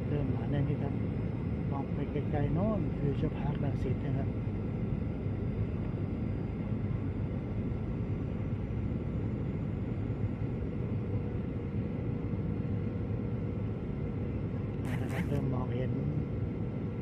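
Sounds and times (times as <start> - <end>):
airliner cabin rumble: 0.0 - 17.0
faint steady whine: 0.0 - 17.0.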